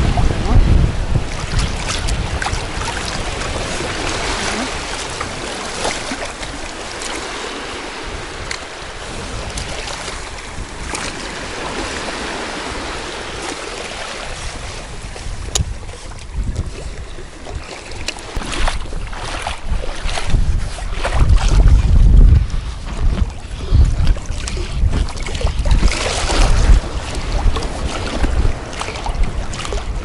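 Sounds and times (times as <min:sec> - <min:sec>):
surf washing around legs: 0:00.0 - 0:30.0
wind buffeting microphone: 0:00.0 - 0:30.0.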